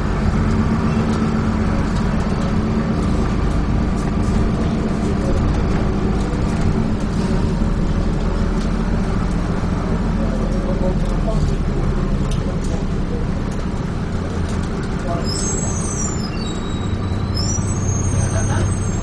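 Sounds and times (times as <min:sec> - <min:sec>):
bus engine hum: 0:00.0 - 0:19.0
road noise: 0:00.0 - 0:19.0.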